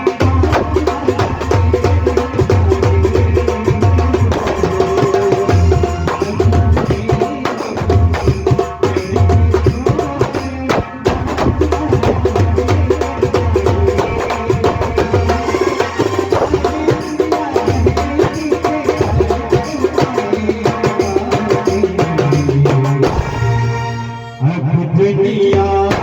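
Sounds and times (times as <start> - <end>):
hand drum percussion: 0.0 - 23.6.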